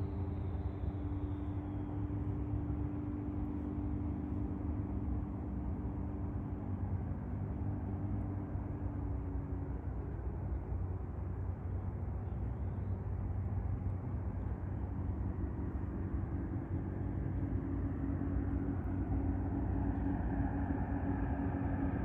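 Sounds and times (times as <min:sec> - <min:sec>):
propeller plane engine humming: 0:00.0 - 0:22.0.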